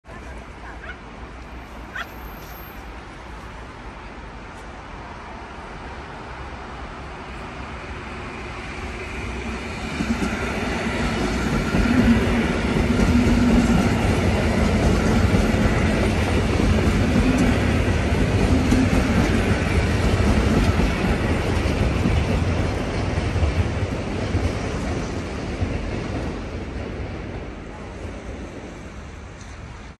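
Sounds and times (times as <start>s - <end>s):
electric train passing with hum: 0.1s - 30.0s.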